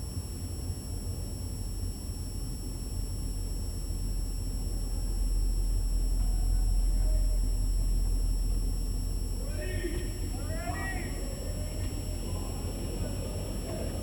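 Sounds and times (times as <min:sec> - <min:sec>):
faint high-pitched whine: 0:01.5 - 0:14.0.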